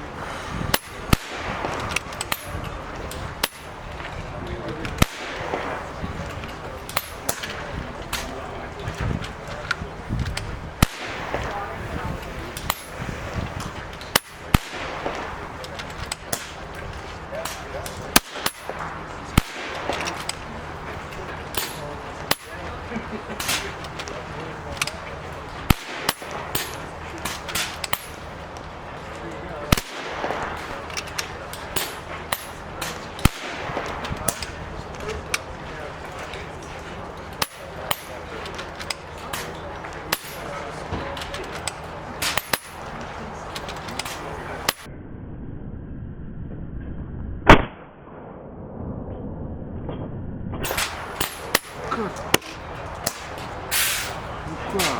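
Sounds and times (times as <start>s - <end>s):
air rifle shots cracking: 0.0s - 44.9s, 50.6s - 54.9s.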